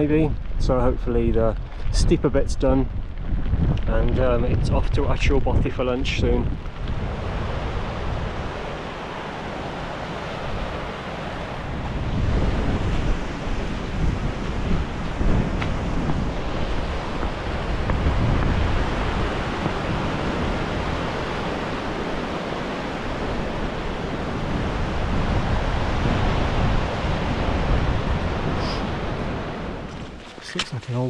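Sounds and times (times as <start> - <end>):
steady rushing noise: 0.0 - 31.0
wind buffeting microphone: 0.0 - 31.0.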